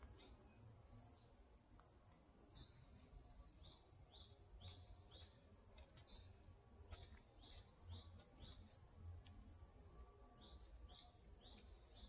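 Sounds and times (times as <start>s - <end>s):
small birds chirping: 0.0s - 1.4s, 2.4s - 9.5s, 10.3s - 12.0s.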